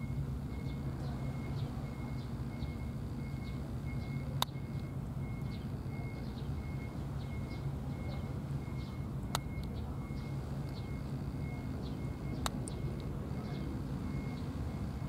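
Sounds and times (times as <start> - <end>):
faint bird chirps: 0.0 - 15.0
steady low rumble: 0.0 - 15.0.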